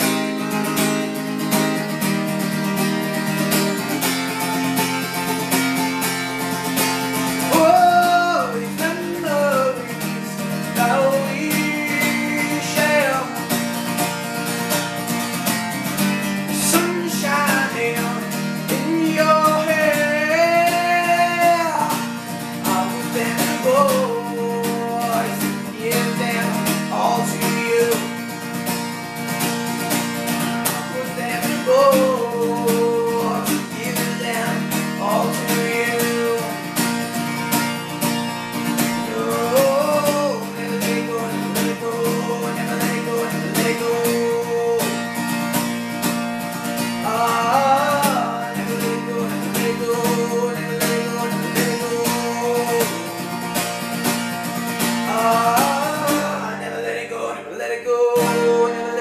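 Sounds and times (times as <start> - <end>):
young man singing: 0.0 - 45.9, 46.7 - 59.0
acoustic guitar strumming: 0.0 - 59.0.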